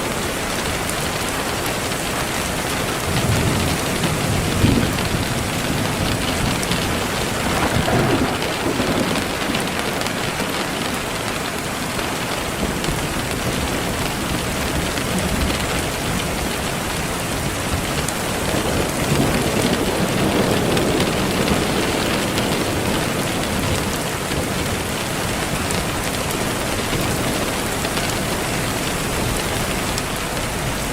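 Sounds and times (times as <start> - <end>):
dense rain: 0.0 - 30.9.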